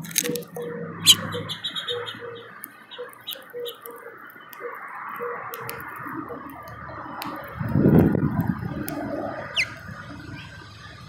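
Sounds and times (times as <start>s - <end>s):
finch cracking seeds: 0.0s - 9.8s.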